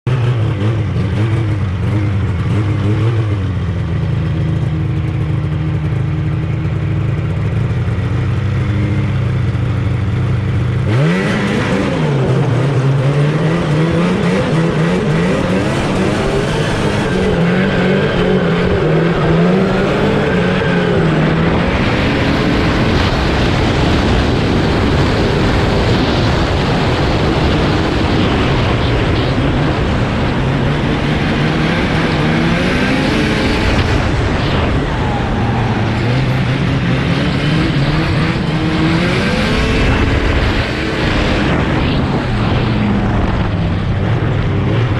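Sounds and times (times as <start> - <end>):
snowmobile engine idling and revving: 0.0 - 44.9
wind rushing over microphone: 8.4 - 44.9.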